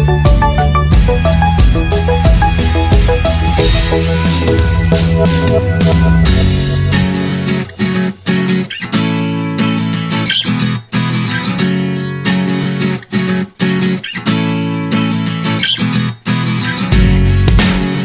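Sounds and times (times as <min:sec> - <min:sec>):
strummed acoustic guitar chords: 0:00.0 - 0:18.0.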